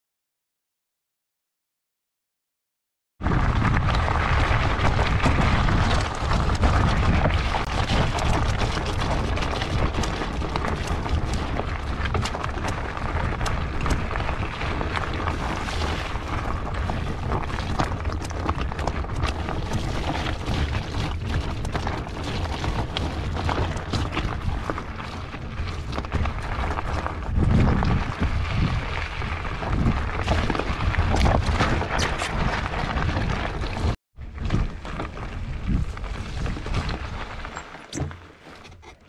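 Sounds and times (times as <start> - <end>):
wind rumble on microphone: 3.2 - 38.9
bike rattling: 3.3 - 39.0
tyres crunching on stones: 3.3 - 39.0.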